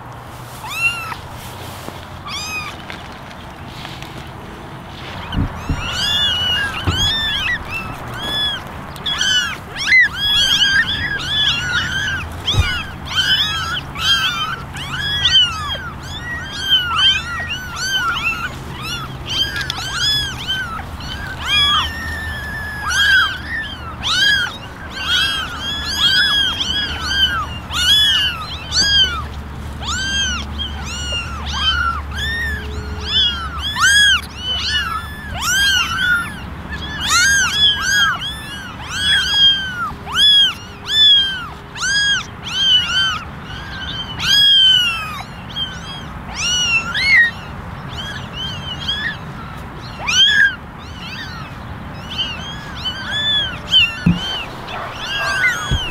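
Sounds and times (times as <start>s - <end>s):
kittens meowing: 0.6s - 1.3s, 2.2s - 3.1s, 5.0s - 55.9s.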